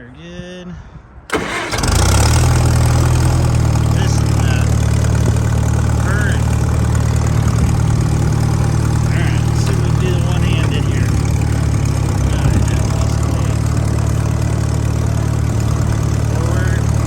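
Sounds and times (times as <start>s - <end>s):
tractor engine idling: 1.3s - 17.0s.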